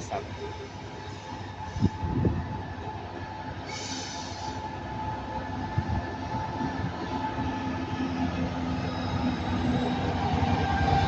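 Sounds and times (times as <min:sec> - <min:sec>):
diesel freight train rumbling: 0:00.0 - 0:11.0.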